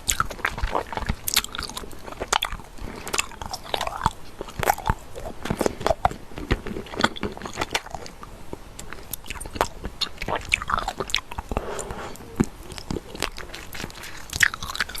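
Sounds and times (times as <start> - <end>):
crunchy slime crackling: 0.0 - 15.0.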